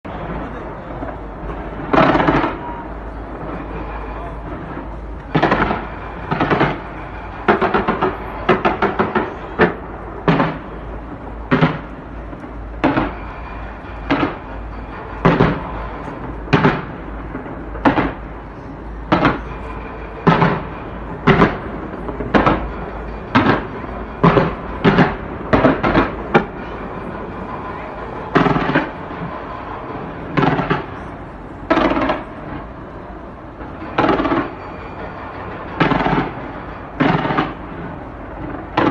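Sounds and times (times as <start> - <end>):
fireworks booming: 0.1 - 38.9.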